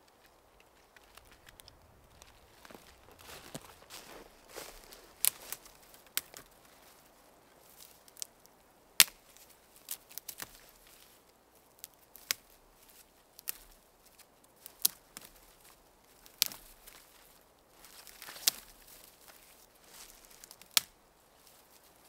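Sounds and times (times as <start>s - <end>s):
dry twigs snapping: 0.0s - 21.8s.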